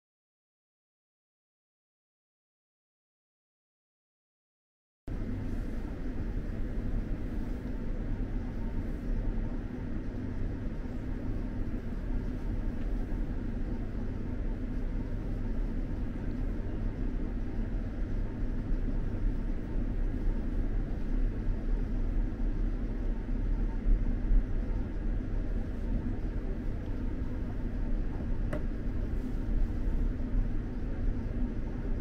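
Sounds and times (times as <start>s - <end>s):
faint even hum: 5.1s - 32.0s.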